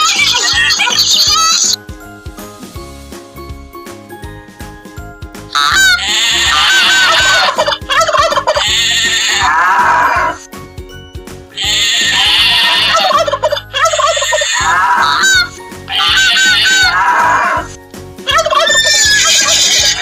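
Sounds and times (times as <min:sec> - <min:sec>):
light background music: 0:00.0 - 0:20.0.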